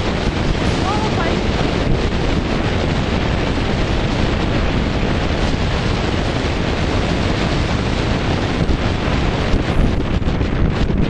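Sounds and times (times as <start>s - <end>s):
vehicle noise: 0.0s - 11.0s
wind buffeting microphone: 0.0s - 11.0s.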